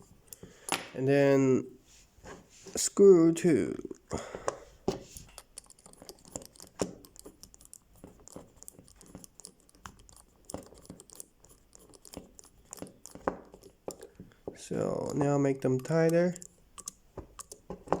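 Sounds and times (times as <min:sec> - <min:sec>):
screwdriver clicking and scraping: 0:00.0 - 0:01.0, 0:04.4 - 0:18.0.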